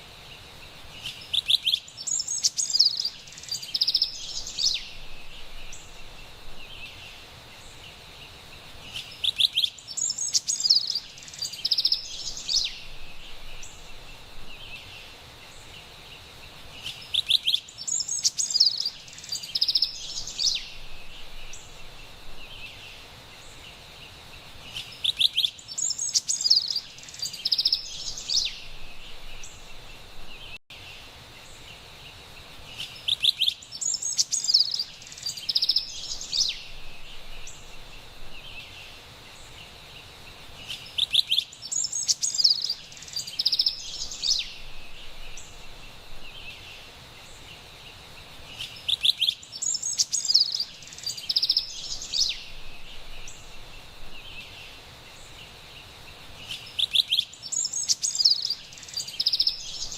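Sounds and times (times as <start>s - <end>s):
steady high background hiss: 0.0s - 59.9s
wren singing rapid phrases: 1.0s - 8.1s, 8.8s - 23.7s, 24.6s - 30.5s, 32.2s - 39.8s, 40.6s - 59.9s.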